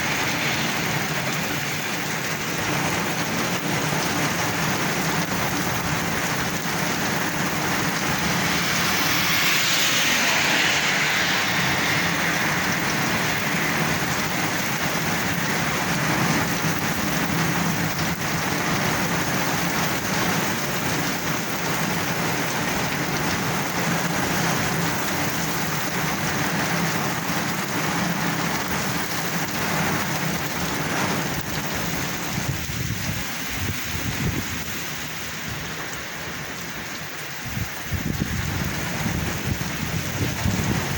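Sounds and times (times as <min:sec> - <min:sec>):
heavy rain on hard surfaces: 0:00.0 - 0:40.9.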